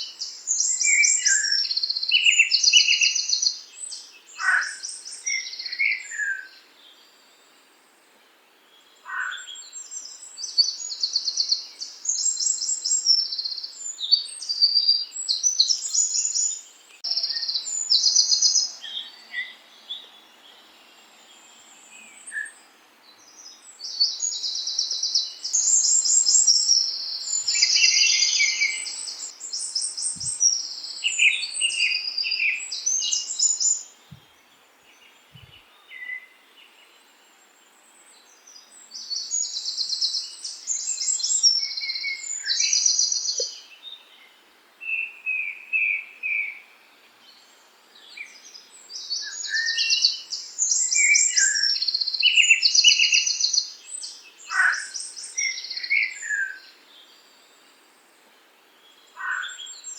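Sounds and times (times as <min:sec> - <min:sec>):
songbirds trilling: 0:00.0 - 0:07.6, 0:08.4 - 0:59.9.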